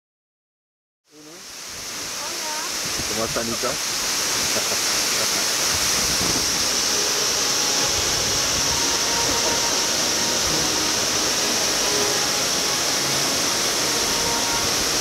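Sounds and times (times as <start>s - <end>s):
waterfall rushing into pool: 1.1s - 15.0s.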